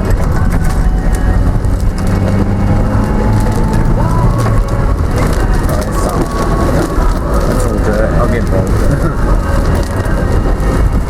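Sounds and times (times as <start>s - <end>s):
car engine and road hum: 0.0s - 11.0s
rain pattering on car: 0.0s - 11.0s.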